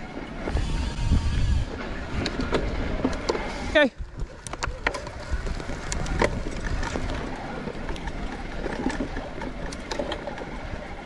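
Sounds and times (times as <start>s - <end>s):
tyres rolling through mud: 0.0s - 11.0s
bike rattling clicks and knocks: 1.9s - 11.0s.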